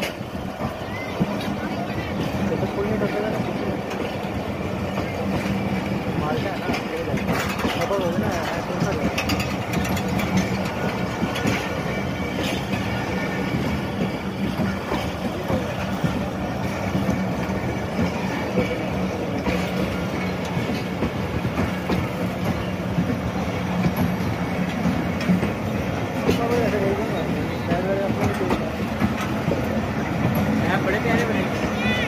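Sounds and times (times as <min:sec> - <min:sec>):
train wheels rumbling on rails: 0:00.0 - 0:32.0
wheels clacking over rail joints: 0:00.0 - 0:32.0.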